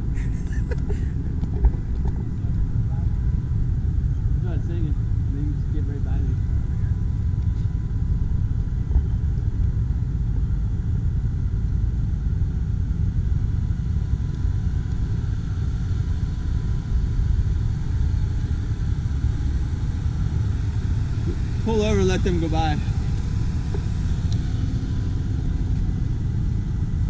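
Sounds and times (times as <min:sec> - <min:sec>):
engine and drivetrain rumble: 0:00.0 - 0:27.0.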